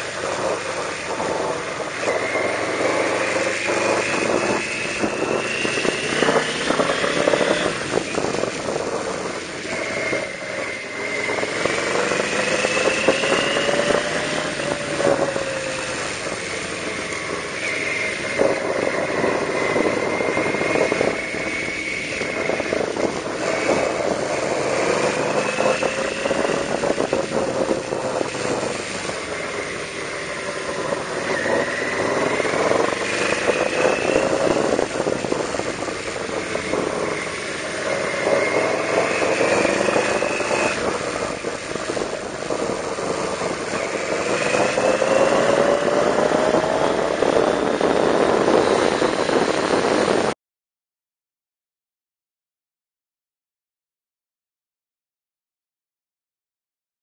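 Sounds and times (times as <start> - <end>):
motorcycle engine revving: 0.0 - 50.4
wind on microphone: 0.0 - 50.4.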